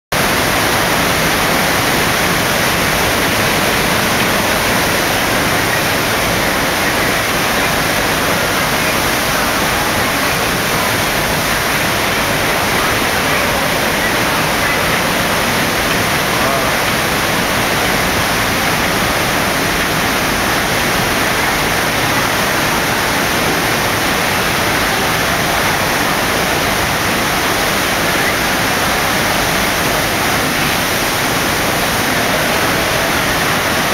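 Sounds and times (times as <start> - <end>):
rush of pumped water: 0.1 - 33.9.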